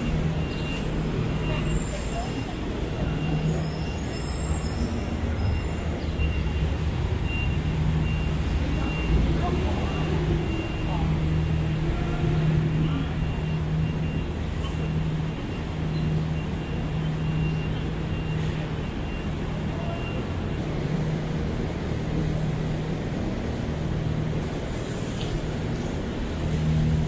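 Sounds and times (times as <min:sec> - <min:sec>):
heavy vehicle engine idling: 0:00.0 - 0:27.0
road traffic noise: 0:00.0 - 0:27.0.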